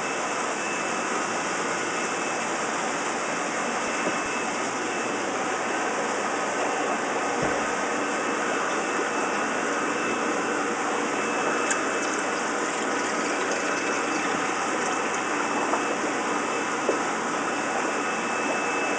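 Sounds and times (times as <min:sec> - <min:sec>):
faint high whine: 0:00.0 - 0:18.9
mechanical whir and hiss: 0:00.0 - 0:18.9.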